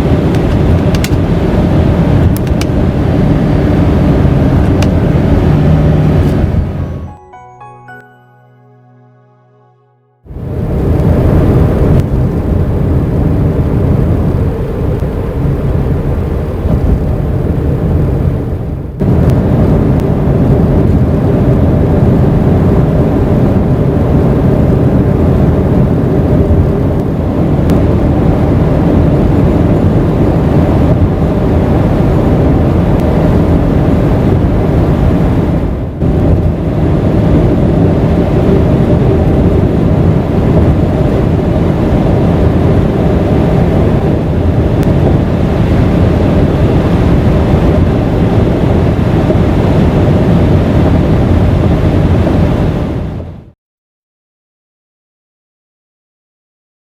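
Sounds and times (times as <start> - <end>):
car engine tyre and wind noise: 0.0 - 7.1, 10.3 - 53.6.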